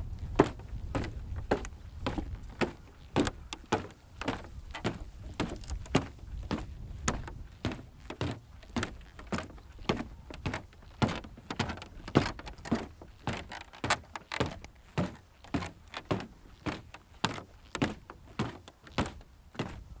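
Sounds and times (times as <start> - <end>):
footsteps on wooden boards: 0.0 - 20.0.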